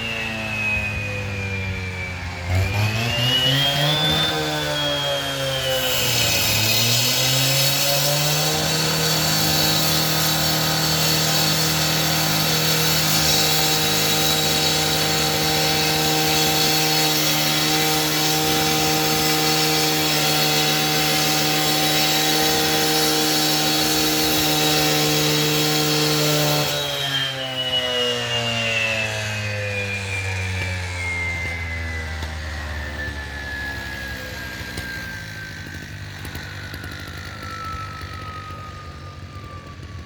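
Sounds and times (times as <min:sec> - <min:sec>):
power saw cutting: 0:00.0 - 0:40.0.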